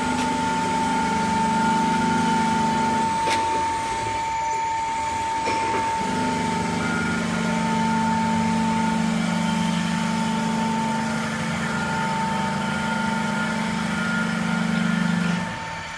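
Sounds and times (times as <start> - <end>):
grinding machine high whine: 0.0 - 15.9
low motor hum: 0.0 - 15.9.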